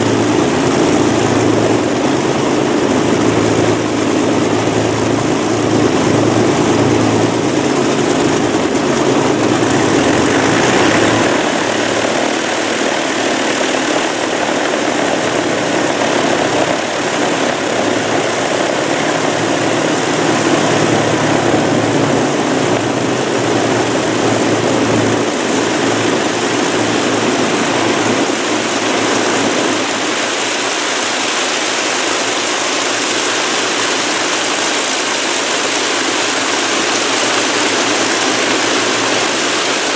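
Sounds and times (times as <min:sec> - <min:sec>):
piston aircraft engines running: 0:00.0 - 0:39.9.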